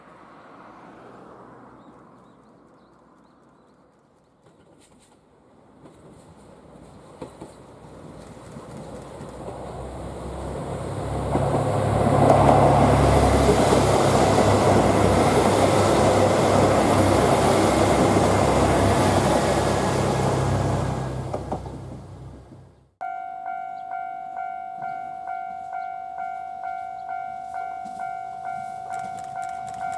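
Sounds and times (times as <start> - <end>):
train wheels on rails: 1.8 - 22.7, 24.8 - 29.9
diesel railcar engines droning: 4.8 - 29.9.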